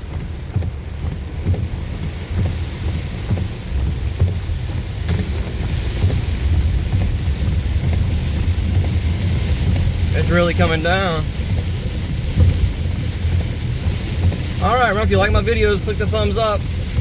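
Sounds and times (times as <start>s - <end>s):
car tyres through water: 0.0s - 17.0s
rain hissing: 0.0s - 17.0s.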